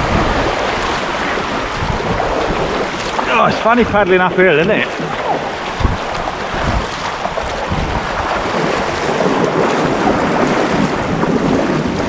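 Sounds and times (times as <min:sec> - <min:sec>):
sea water splashing: 0:00.0 - 0:12.0
wind buffeting microphone: 0:00.0 - 0:12.0.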